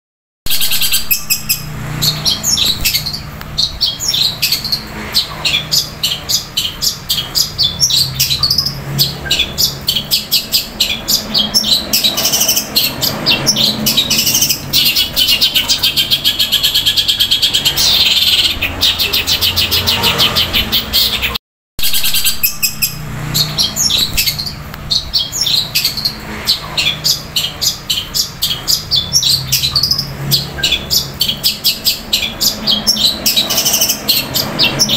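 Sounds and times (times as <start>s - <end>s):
bird chattering song: 0.5s - 34.9s.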